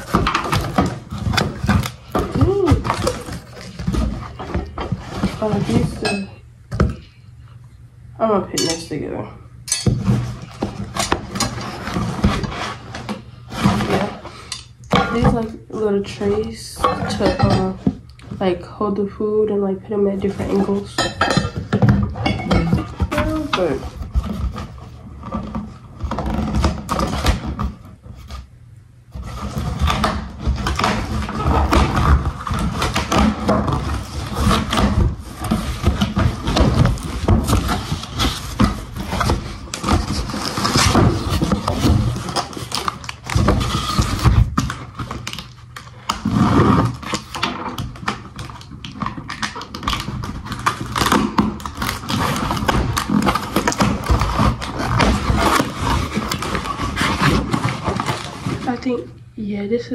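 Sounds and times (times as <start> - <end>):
plastic packaging rustling: 0.0 - 6.1, 9.8 - 28.5, 29.1 - 59.3.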